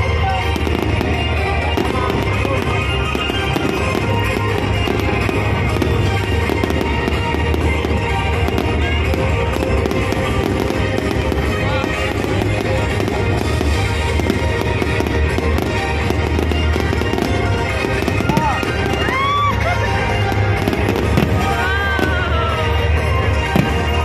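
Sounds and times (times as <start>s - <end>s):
fireworks popping: 0.0s - 24.0s.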